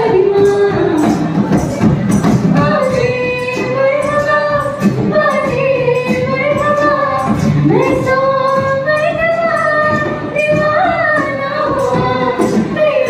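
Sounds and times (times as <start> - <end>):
group of singers singing: 0.0 - 13.0
hand drum: 0.0 - 13.0.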